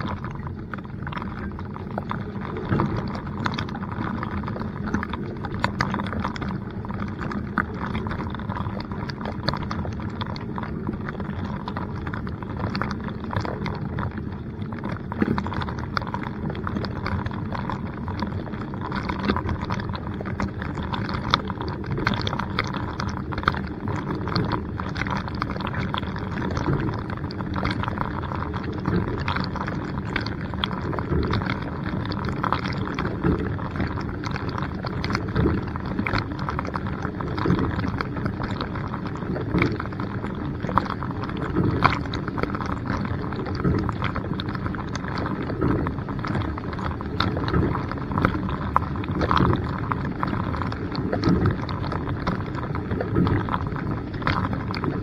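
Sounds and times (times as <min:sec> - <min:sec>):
dishwasher low hum: 0:00.0 - 0:55.0.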